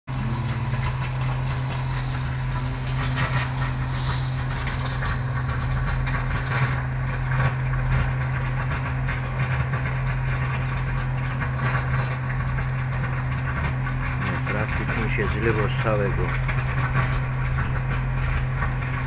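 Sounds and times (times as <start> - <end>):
pump humming: 0.1 - 19.0
water churning in a well: 0.1 - 19.0.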